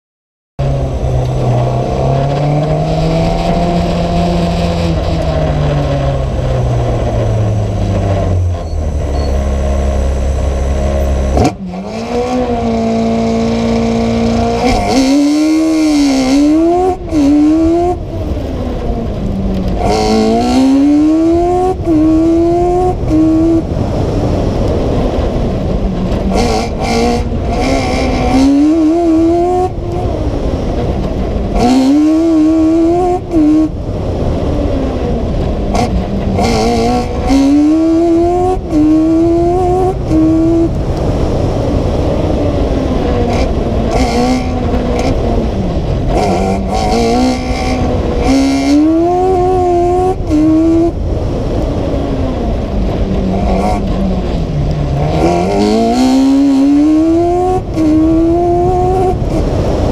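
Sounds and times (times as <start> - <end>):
race car engine revving: 0.6 - 59.9.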